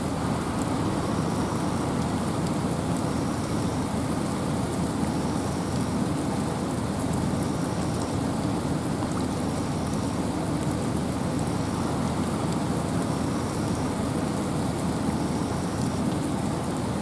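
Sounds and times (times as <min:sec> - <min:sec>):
wind and rain in forest: 0:00.0 - 0:17.0.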